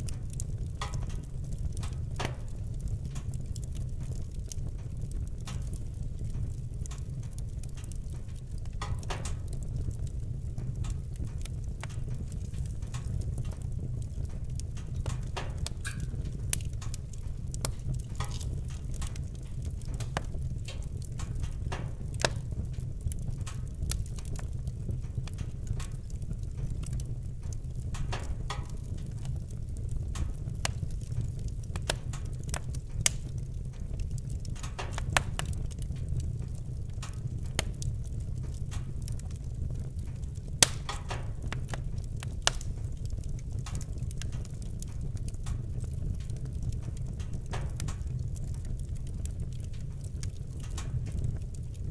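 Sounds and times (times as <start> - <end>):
fire low rumble: 0.0 - 51.9
wood fire crackling: 0.0 - 51.9.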